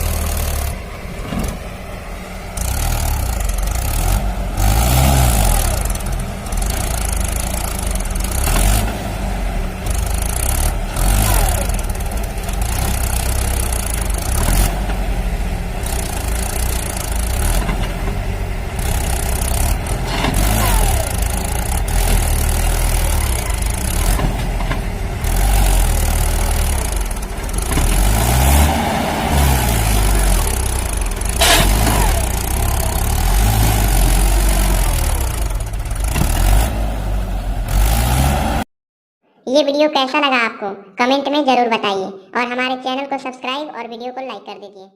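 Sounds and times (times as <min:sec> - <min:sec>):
vehicle engine rumbling: 0:00.0 - 0:38.7.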